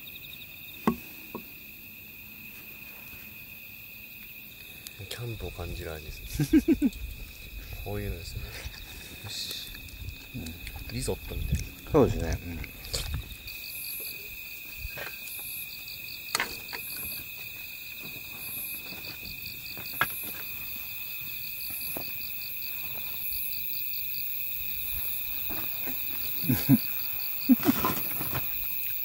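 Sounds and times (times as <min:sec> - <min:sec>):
insects trilling: 0:00.0 - 0:29.0
short insect call: 0:00.0 - 0:29.0.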